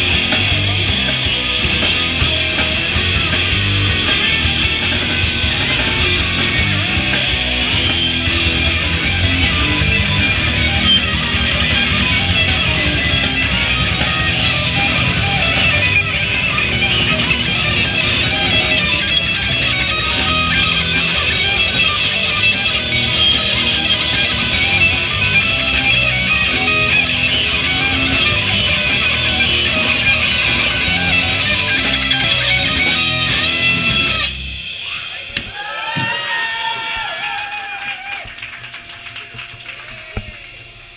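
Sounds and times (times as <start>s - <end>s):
rock band playing heavy music: 0.0s - 40.6s.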